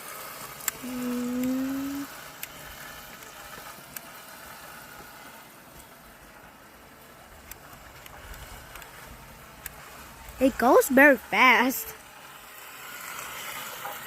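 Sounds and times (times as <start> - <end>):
toy boat electric motor: 0.0 - 14.0.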